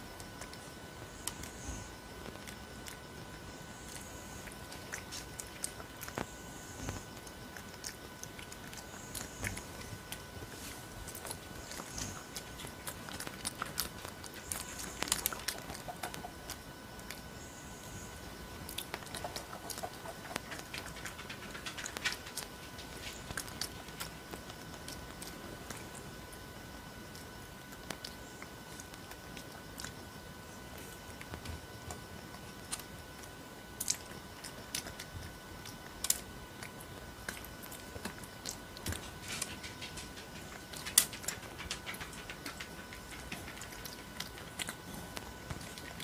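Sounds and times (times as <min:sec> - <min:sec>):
steady background hiss: 0:00.0 - 0:46.0
monkey chewing and biting fruit: 0:00.1 - 0:46.0.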